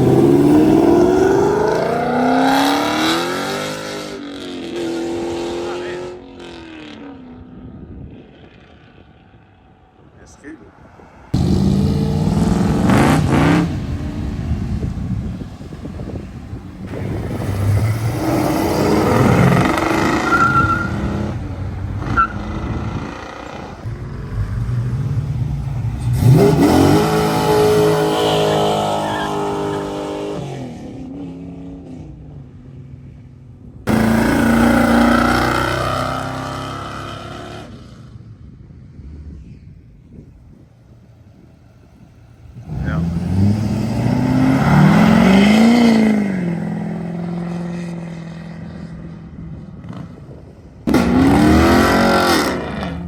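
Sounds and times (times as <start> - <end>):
car engines revving and accelerating: 0.0 - 53.0.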